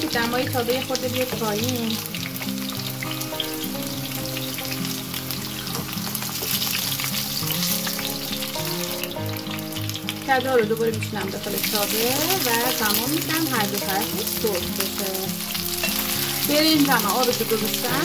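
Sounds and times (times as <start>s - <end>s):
background music: 0.0s - 18.0s
zucchini sizzling in oil: 0.0s - 18.0s.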